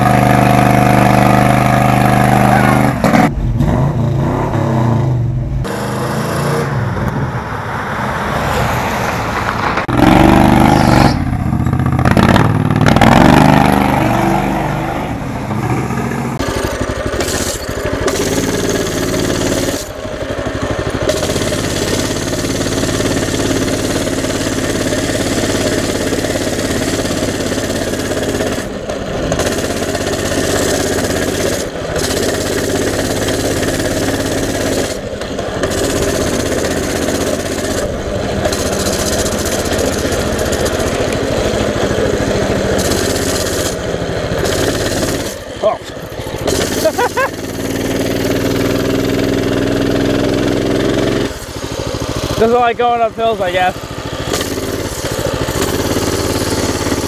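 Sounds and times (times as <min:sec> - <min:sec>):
small engine revving: 0:00.0 - 0:07.3, 0:09.8 - 0:57.0.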